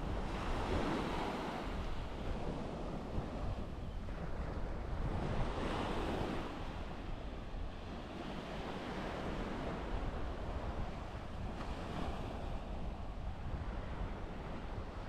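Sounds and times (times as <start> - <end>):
waves washing on sand: 0.0 - 15.0
wind on microphone: 0.0 - 15.0.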